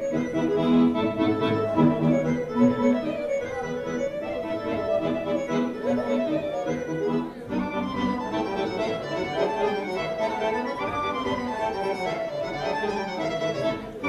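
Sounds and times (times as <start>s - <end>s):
accordion folk dance music: 0.0s - 14.0s.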